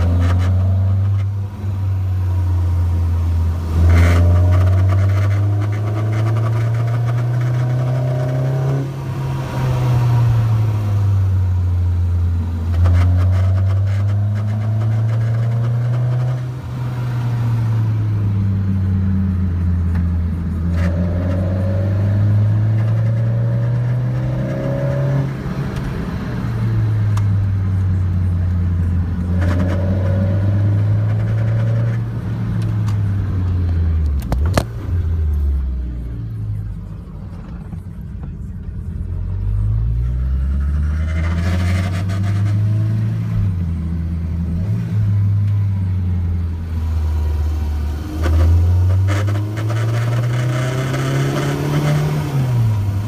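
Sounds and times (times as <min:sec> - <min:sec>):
car engine revving through gears: 0:00.0 - 0:53.0.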